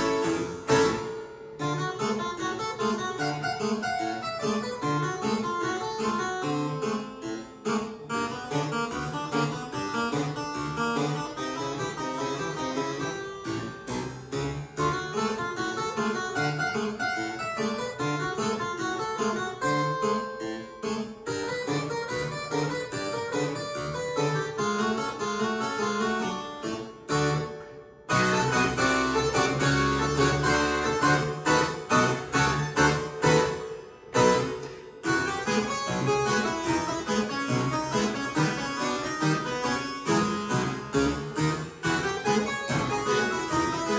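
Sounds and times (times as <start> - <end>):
harpsichord playing ragtime: 0.0 - 43.9.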